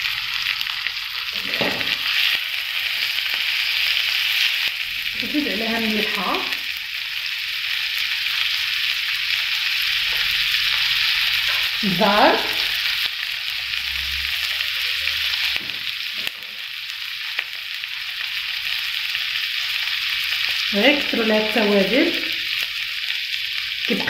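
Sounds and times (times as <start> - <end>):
meat and onions sizzling in a pan: 0.0 - 24.0.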